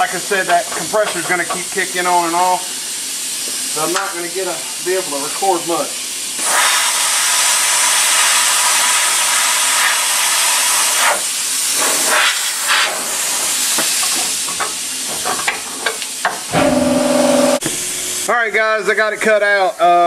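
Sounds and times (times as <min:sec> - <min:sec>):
plasma cutter hissing: 0:00.0 - 0:18.3.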